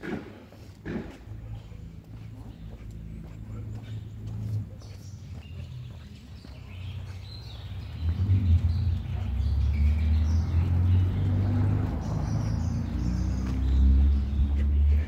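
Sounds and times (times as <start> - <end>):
birds chirping: 0.0 - 15.0
street ambience: 0.0 - 15.0.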